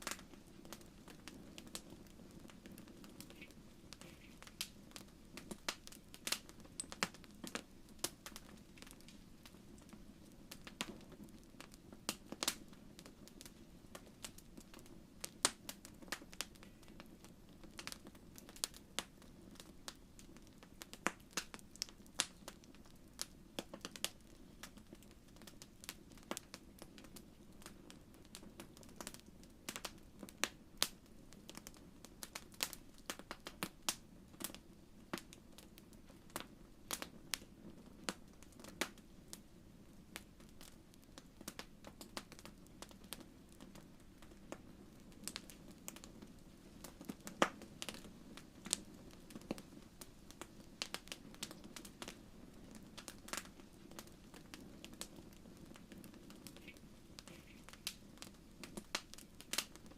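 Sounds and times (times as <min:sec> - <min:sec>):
low rush of flame: 0:00.0 - 0:30.5, 0:35.1 - 0:59.9
wood fire crackling: 0:00.0 - 0:59.9.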